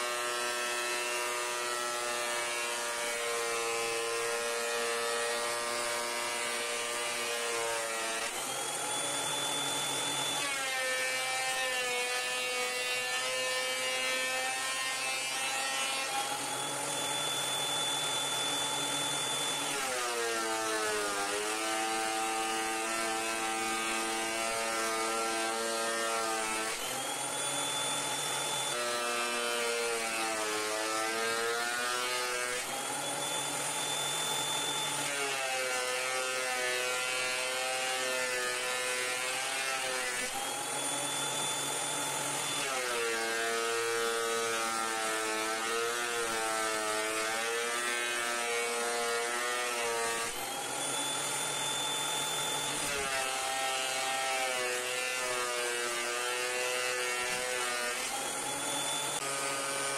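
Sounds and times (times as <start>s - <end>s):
thickness planer motor whine: 0.0s - 59.9s.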